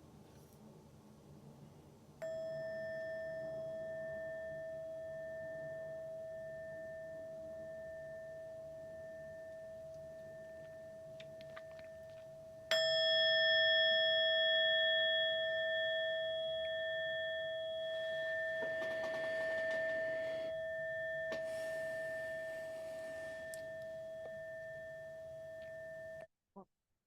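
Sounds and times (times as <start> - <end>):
meditation bell ringing: 2.2 - 26.3.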